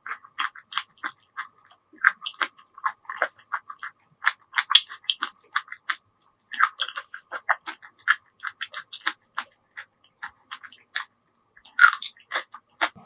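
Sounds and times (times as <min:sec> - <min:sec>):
mouth chewing food wetly: 0:00.0 - 0:13.0.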